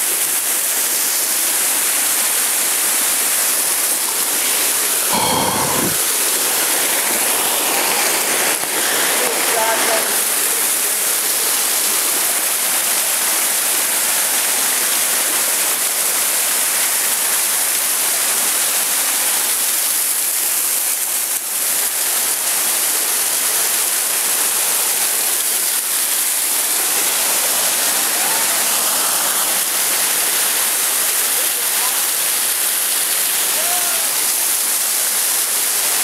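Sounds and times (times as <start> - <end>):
waterfall rushing and splashing: 0.0 - 36.0.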